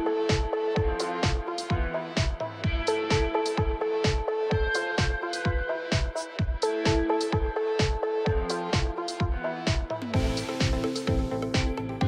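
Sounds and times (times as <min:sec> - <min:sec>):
held synth notes: 0:00.0 - 0:12.0
kick drum beat: 0:00.0 - 0:12.0.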